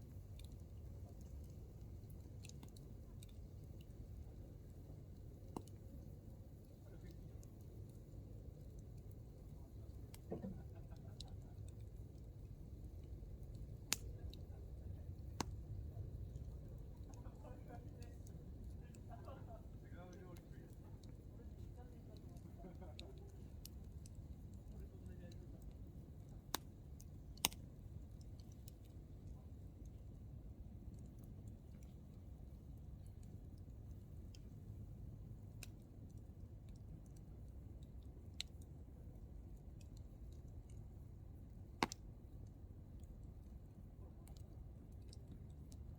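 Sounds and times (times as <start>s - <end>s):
campfire burning and crackling: 0.0s - 45.9s
low steady rumble: 0.0s - 45.9s.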